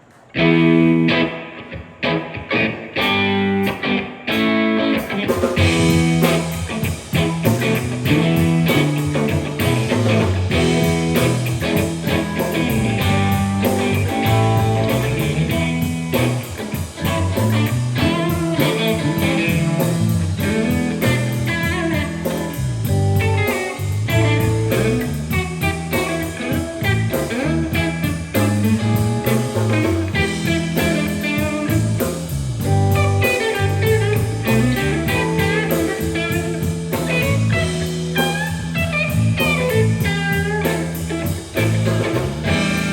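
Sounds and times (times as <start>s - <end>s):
blues band playing: 0.0s - 42.9s
lead guitar: 0.0s - 42.9s.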